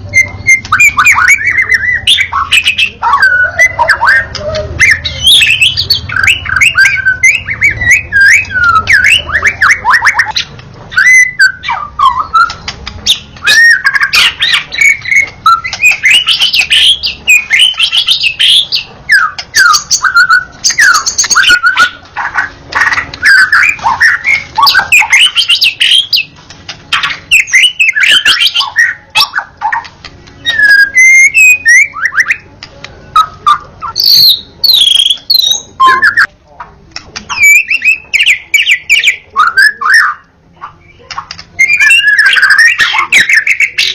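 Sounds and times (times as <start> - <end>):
songbird whistling and chirping: 0.0 - 36.3, 37.1 - 43.9.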